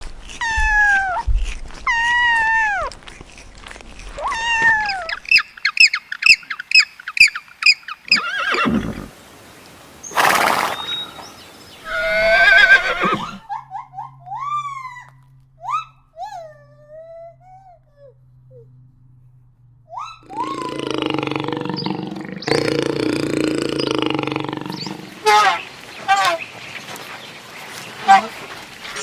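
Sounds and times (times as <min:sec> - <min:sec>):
wavering animal call: 0:00.2 - 0:01.3, 0:01.9 - 0:03.4, 0:04.1 - 0:09.1, 0:11.8 - 0:26.6, 0:28.0 - 0:29.0
drawn-out animal calls: 0:01.9 - 0:09.1, 0:11.8 - 0:29.0.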